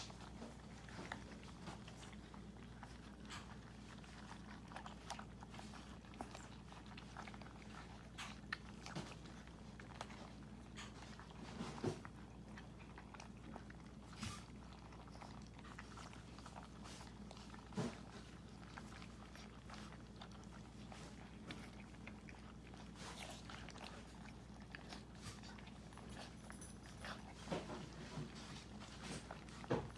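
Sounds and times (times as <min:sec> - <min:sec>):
puppies crunching dry kibble: 0:00.0 - 0:29.9.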